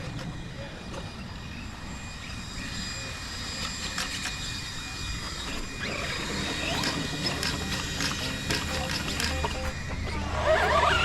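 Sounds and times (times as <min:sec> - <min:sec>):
electric motor whine: 0:01.0 - 0:11.0.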